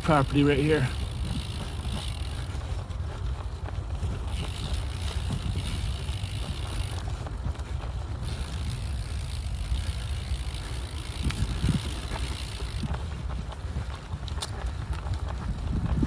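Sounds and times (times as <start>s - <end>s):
faint bumps and ticks: 0.0s - 16.0s
wind buffeting microphone: 0.0s - 16.0s.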